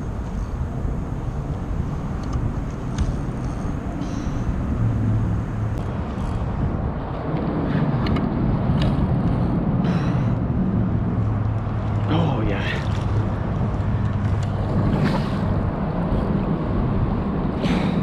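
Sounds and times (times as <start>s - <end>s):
traffic rumbling on bridge overhead: 0.0s - 18.0s.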